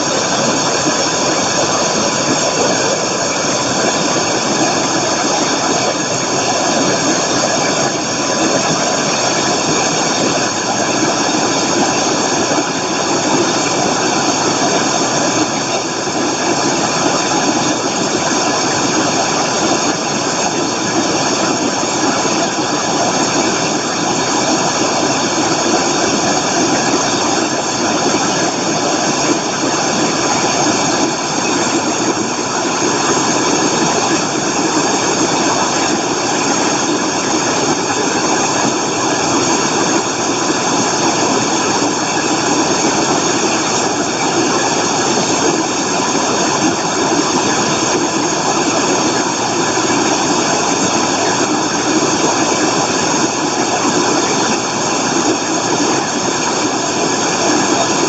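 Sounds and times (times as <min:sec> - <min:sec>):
waterfall crashing over rock: 0:00.0 - 0:58.0.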